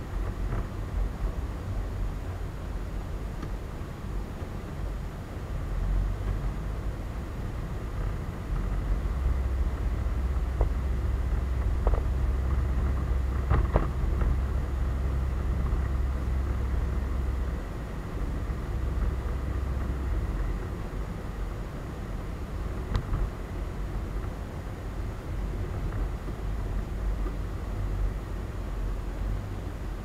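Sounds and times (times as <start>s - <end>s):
road noise hiss: 0.0s - 30.0s.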